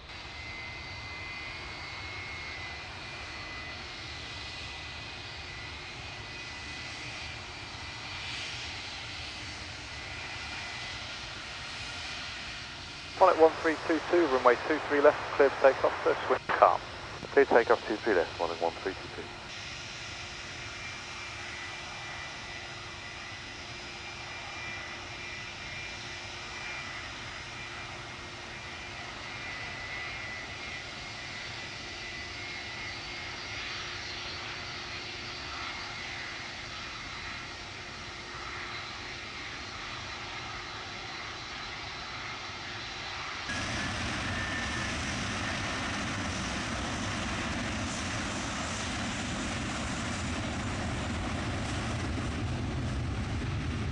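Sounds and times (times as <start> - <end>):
jet engines rushing: 0.0 - 53.9
thin high engine whine: 0.0 - 53.9.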